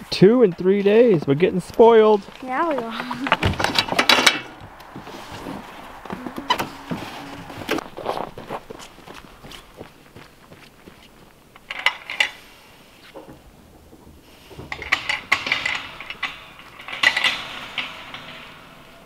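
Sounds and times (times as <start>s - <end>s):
metal clinking and rattling: 0.4s - 8.6s, 11.5s - 19.0s.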